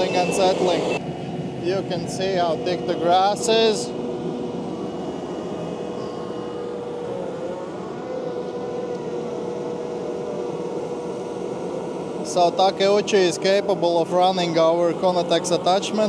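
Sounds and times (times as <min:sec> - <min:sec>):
steady hydraulic whine: 0:00.0 - 0:16.0
track loader engine running: 0:00.0 - 0:16.0.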